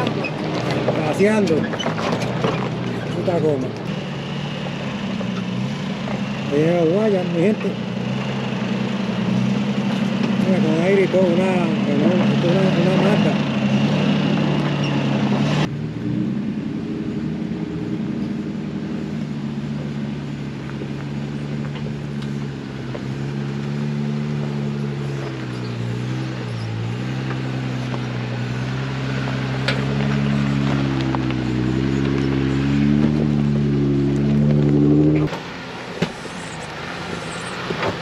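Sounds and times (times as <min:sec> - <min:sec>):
off-road vehicle engine running: 0:00.0 - 0:38.0.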